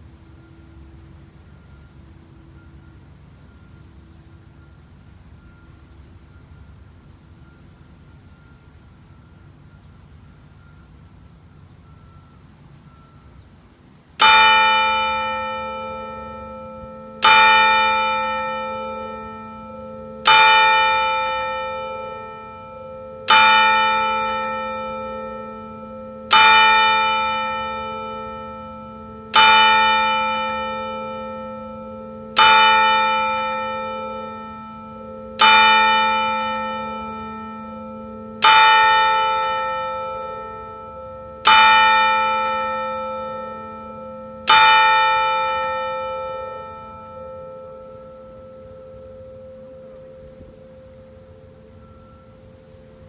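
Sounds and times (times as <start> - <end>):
tower clock bell striking: 0.0 - 13.5, 14.2 - 53.0
faint background noise: 0.0 - 53.0.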